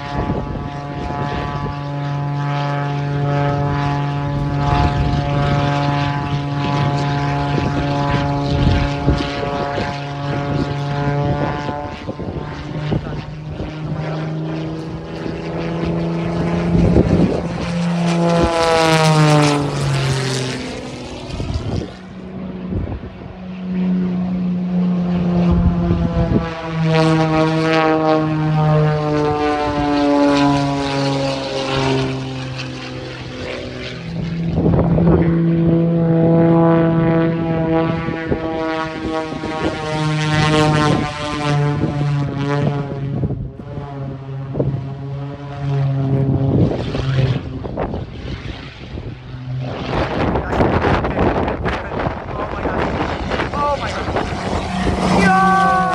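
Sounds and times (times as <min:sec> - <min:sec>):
propeller plane flying: 0:00.0 - 0:55.9.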